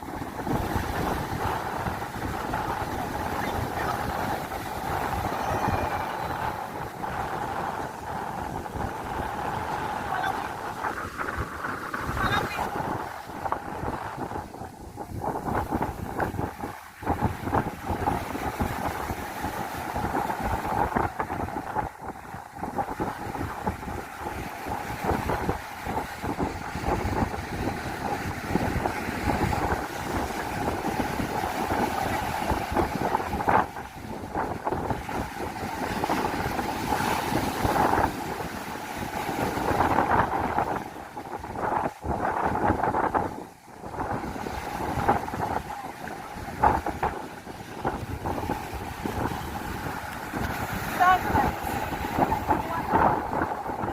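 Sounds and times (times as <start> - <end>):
sea noise: 0.0 - 53.9
wind buffeting microphone: 0.0 - 53.9.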